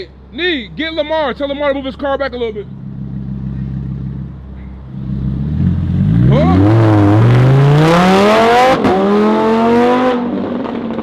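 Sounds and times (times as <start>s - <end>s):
sports car engine accelerating: 0.7s - 11.0s.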